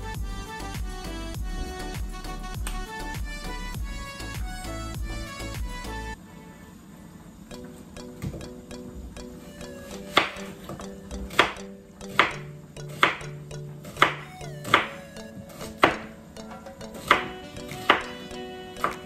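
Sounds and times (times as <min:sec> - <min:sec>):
background music: 0:00.0 - 0:06.8, 0:07.5 - 0:19.0.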